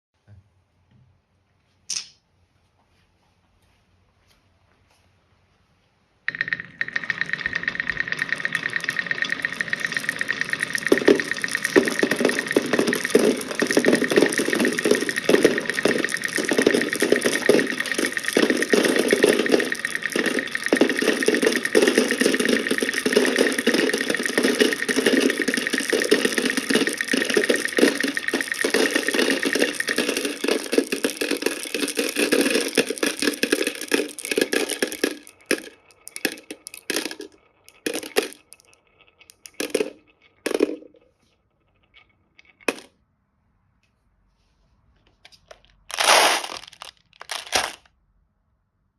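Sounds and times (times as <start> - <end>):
balls rattling down wooden track: 6.3 - 43.0, 45.4 - 47.9.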